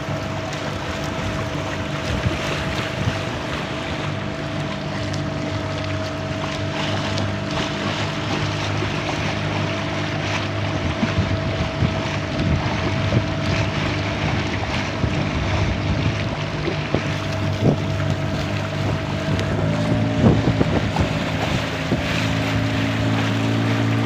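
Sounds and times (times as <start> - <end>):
boat engine humming: 0.0 - 24.0
rushing water: 0.0 - 24.0
wind: 0.0 - 24.0.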